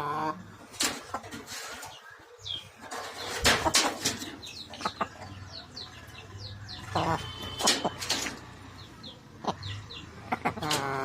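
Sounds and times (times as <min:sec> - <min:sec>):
chickens peeping: 0:00.0 - 0:11.0.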